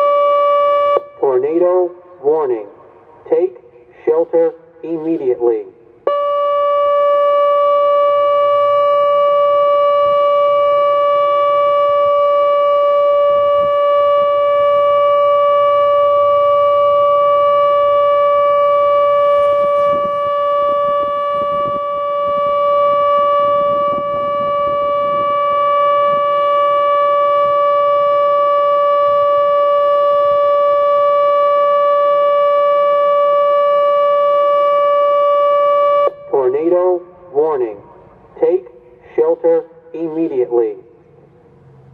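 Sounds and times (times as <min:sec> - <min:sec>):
electronic warning siren steady tone: 0:00.0 - 0:03.3, 0:04.1 - 0:41.3.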